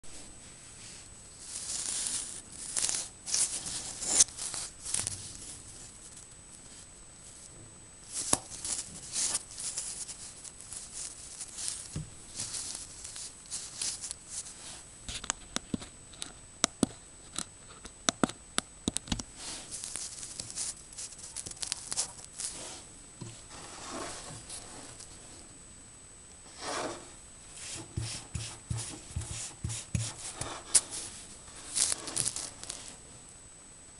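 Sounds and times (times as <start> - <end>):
faint high whine: 0.1 - 15.1, 15.9 - 33.9
rustling handling noise: 0.1 - 15.5, 19.3 - 25.5, 26.5 - 33.2.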